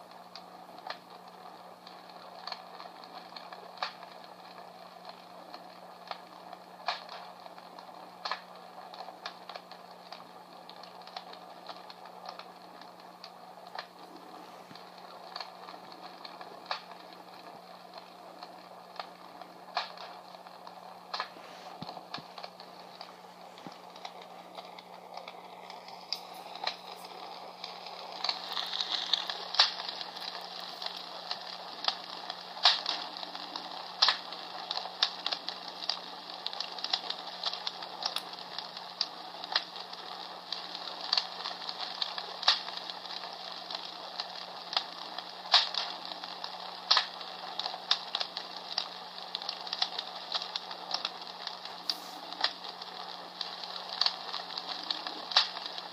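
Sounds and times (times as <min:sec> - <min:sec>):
recorded wood fire crackling: 0:00.0 - 0:55.9.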